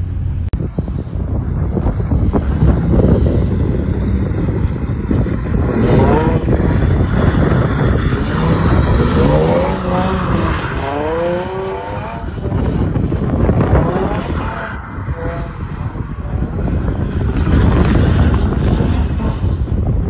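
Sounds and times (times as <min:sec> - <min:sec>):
car engine revving hard: 0:02.3 - 0:19.7.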